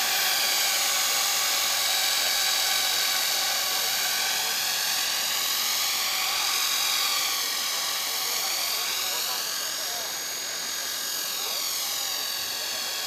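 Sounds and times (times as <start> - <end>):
model helicopter rotor whine: 0.0 - 13.0.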